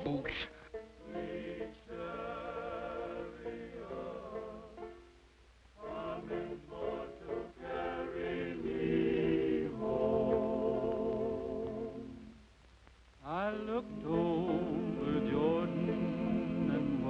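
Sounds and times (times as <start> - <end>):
choir singing in harmony: 1.0 - 5.0, 5.8 - 12.3, 13.3 - 17.0.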